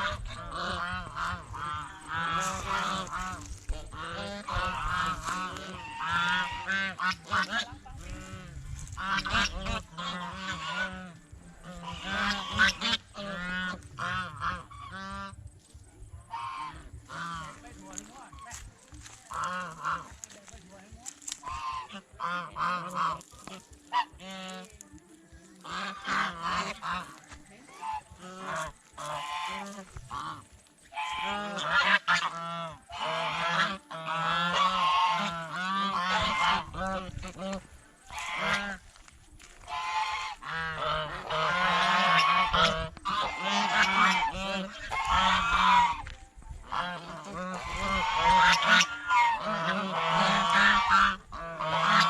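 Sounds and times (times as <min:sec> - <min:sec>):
geese honking: 0:00.0 - 0:52.0.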